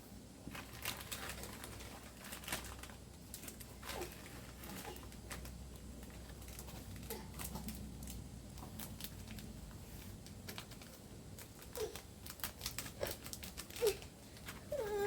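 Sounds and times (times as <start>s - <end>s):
crackling and clicking: 0.5s - 14.7s.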